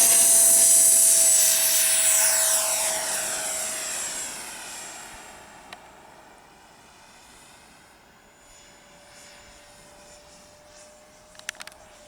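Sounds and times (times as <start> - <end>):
electric ducted fan whine: 0.0 - 12.0.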